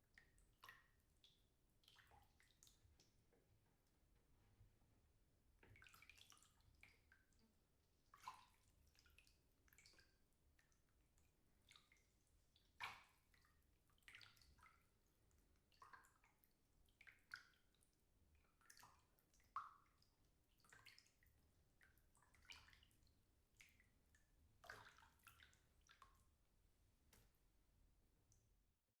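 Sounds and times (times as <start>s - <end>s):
water splashing in bathtub: 0.1s - 3.9s, 5.6s - 12.0s, 12.6s - 17.7s, 18.5s - 26.3s.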